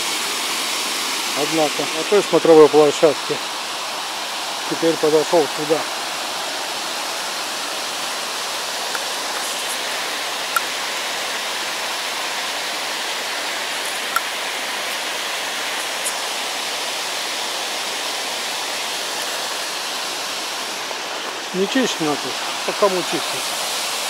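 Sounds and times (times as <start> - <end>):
small waterfall rushing: 0.0 - 24.0.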